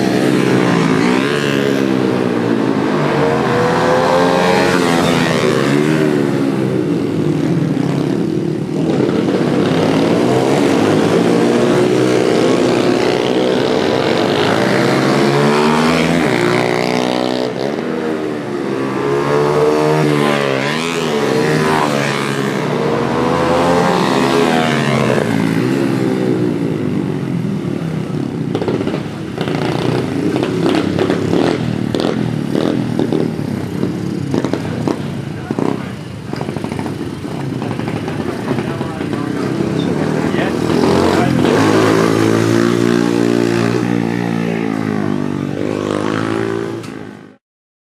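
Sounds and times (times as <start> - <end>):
pit bike engines revving: 0.0 - 47.4.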